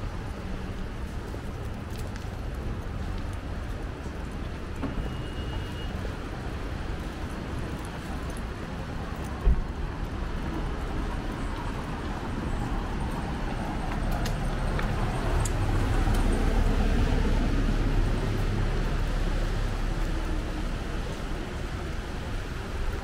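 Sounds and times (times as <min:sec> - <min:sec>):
low street rumble: 0:00.0 - 0:23.0.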